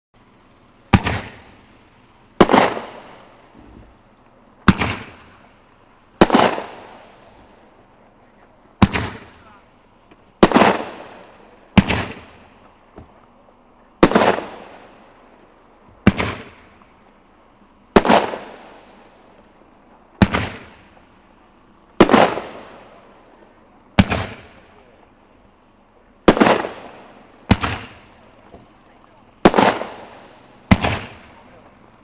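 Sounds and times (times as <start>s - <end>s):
firework crackling: 0.2s - 32.0s
firework bangs: 0.9s - 1.8s, 2.4s - 7.8s, 8.4s - 13.3s, 14.0s - 17.0s, 17.9s - 21.2s, 21.9s - 25.1s, 26.2s - 32.0s.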